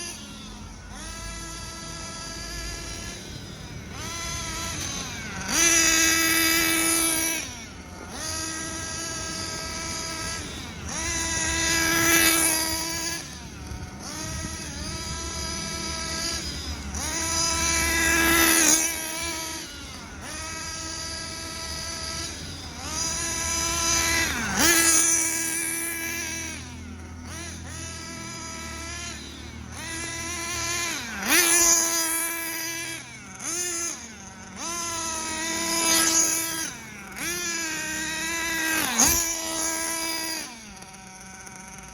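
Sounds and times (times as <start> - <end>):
small nitro engine revving: 0.0 - 41.9.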